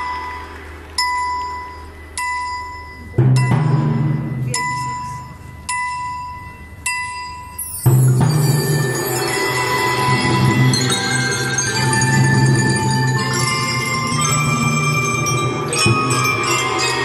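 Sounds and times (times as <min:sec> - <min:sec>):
ringing bell-like mallet notes: 0:00.0 - 0:17.0.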